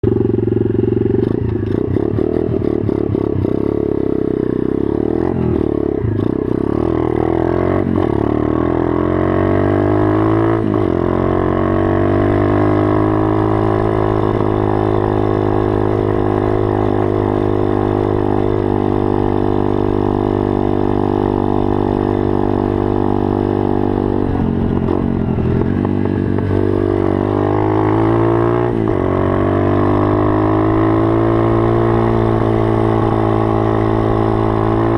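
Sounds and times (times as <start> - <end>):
pit bike engine revving: 0.2 - 34.9.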